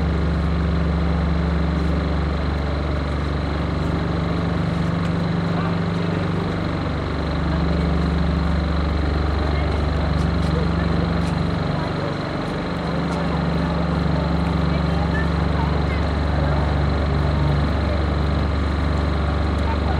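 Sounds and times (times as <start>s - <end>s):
low pulsing engine drone: 0.0s - 19.9s.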